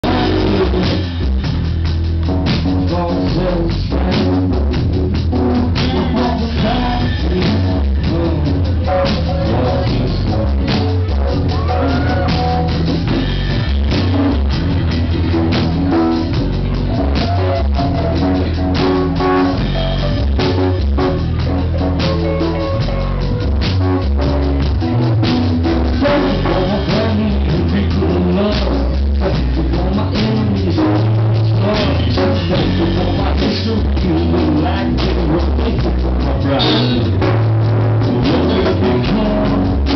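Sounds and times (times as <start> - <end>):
man singing: 0.0 - 1.8, 2.4 - 39.9
drum kit beat: 0.0 - 39.9
electric guitar: 0.0 - 39.9.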